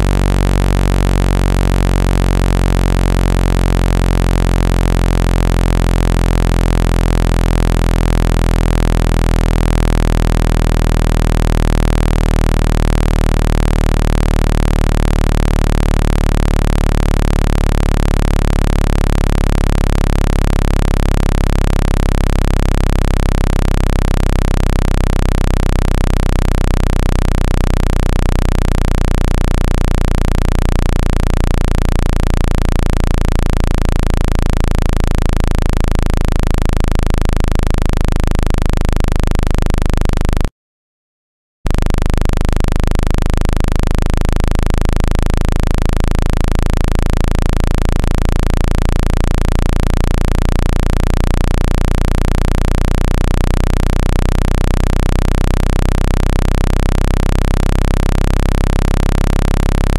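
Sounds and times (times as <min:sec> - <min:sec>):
low electronic test tone: 0:00.0 - 0:40.5, 0:41.7 - 0:59.9.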